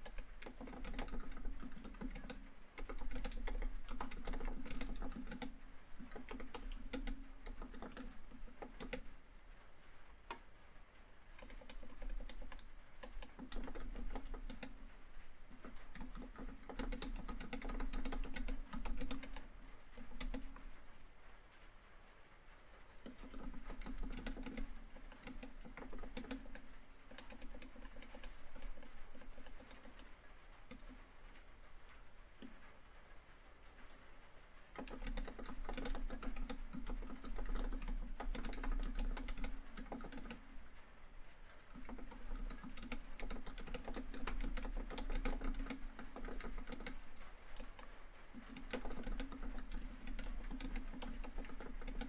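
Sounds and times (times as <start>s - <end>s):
typing on laptop keyboard: 0.0s - 9.2s, 11.3s - 20.8s, 23.0s - 31.6s, 34.7s - 40.7s, 41.6s - 52.0s.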